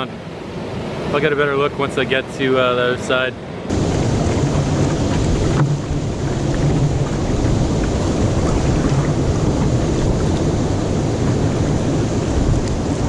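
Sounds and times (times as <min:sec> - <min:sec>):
river rapids roaring: 0:00.0 - 0:13.0.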